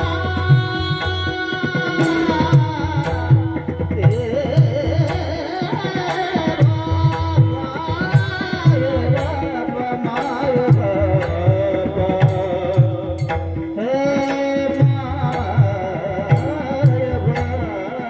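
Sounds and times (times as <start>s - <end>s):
man singing ornamented melody: 0.0s - 18.0s.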